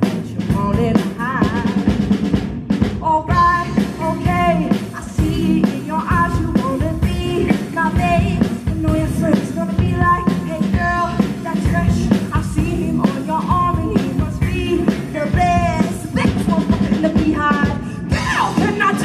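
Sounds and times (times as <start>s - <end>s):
drum kit: 0.0s - 19.0s
electric bass: 0.0s - 19.0s.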